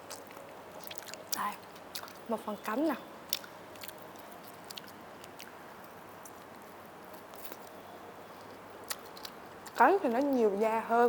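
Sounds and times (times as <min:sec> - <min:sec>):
chewing chicken wing: 0:00.0 - 0:07.8, 0:08.4 - 0:10.5.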